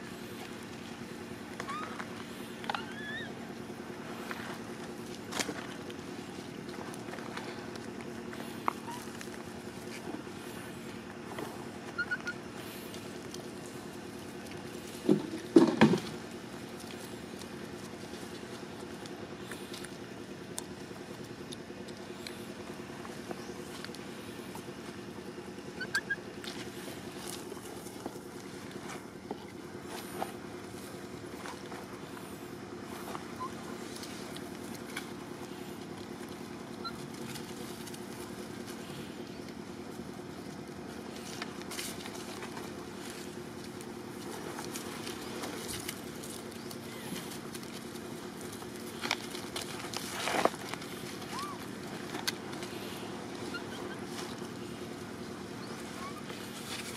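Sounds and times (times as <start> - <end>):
rustling and clicks in dry leaves: 0.0 - 56.9
steady low hum: 0.0 - 56.9.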